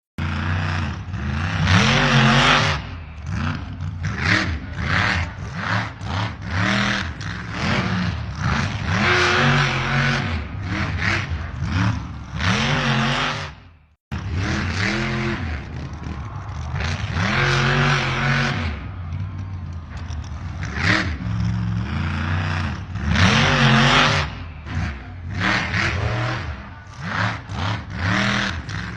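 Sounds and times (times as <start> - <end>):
simulated diesel engine sound: 0.2 - 28.9.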